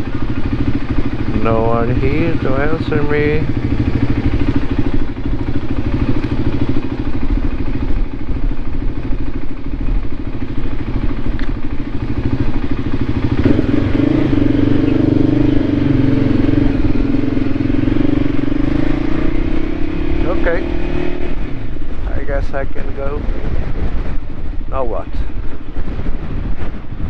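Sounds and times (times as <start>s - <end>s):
motorcycle engine idling: 0.0s - 27.0s.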